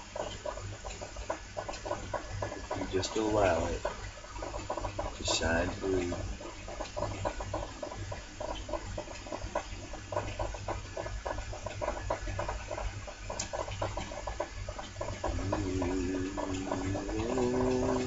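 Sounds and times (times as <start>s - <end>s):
steady low hum: 0.0s - 18.0s
water bubbling: 0.0s - 18.0s.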